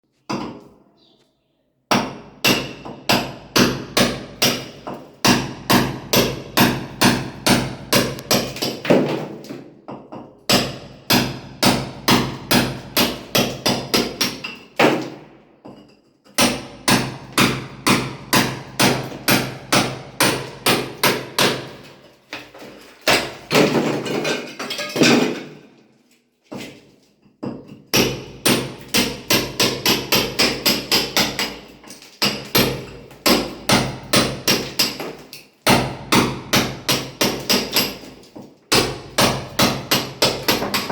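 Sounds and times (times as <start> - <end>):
hammer striking wall: 1.9 - 25.6, 27.4 - 40.9.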